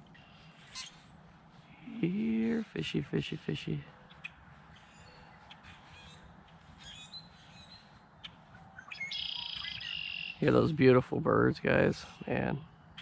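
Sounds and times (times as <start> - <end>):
birds calling faintly: 0.0 - 13.0.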